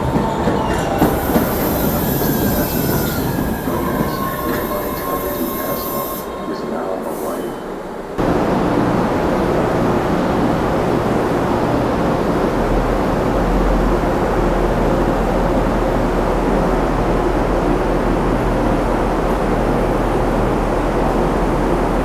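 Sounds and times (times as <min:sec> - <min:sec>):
train rushing: 0:00.0 - 0:22.0.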